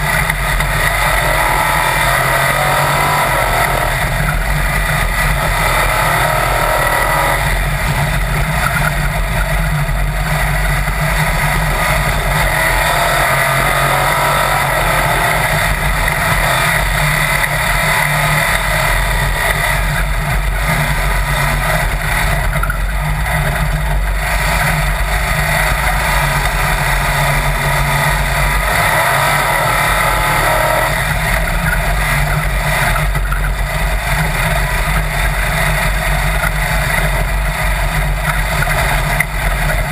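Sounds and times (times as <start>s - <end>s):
dune buggy engine running: 0.0s - 39.9s.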